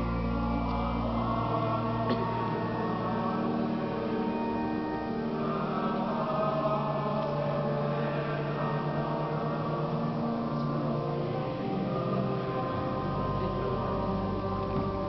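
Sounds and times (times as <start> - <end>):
church music with held chords: 0.0 - 15.0.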